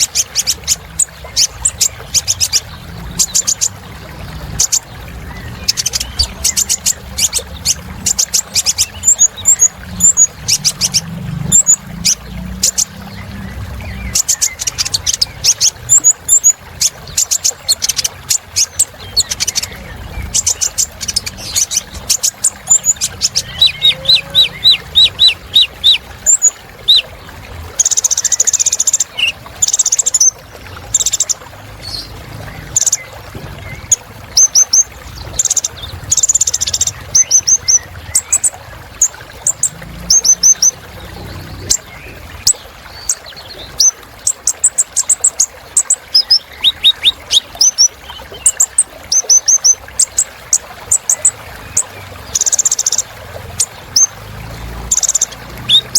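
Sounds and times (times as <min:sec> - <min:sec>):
sunbird singing: 0:04.6 - 0:33.1, 0:33.7 - 0:50.3, 0:54.9 - 0:55.9.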